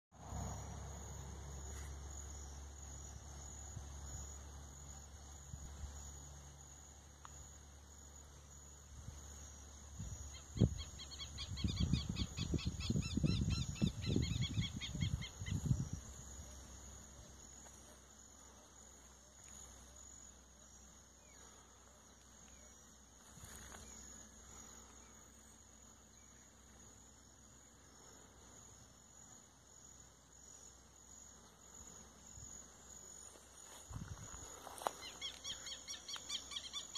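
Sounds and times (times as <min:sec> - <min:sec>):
cricket and insect chorus: 0:00.2 - 0:36.9.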